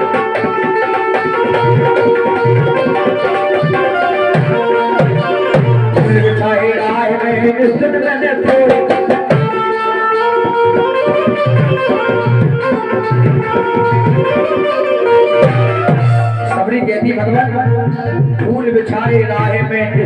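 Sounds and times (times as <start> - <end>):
hand drum beat: 0.0 - 6.4, 7.8 - 9.7, 10.4 - 18.6
harmonium chords: 0.0 - 20.0.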